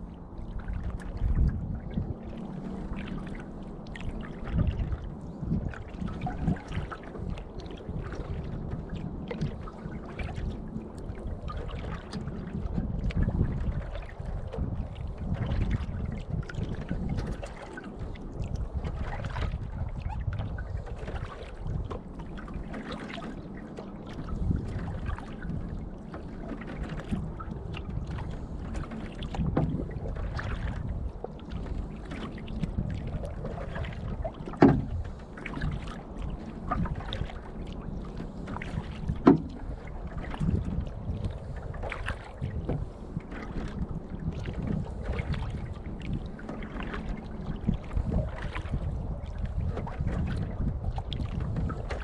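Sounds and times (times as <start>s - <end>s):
paddle strokes: 0.0s - 52.0s
water splashing against hull: 0.0s - 52.0s
wind rumble on microphone: 0.0s - 52.0s.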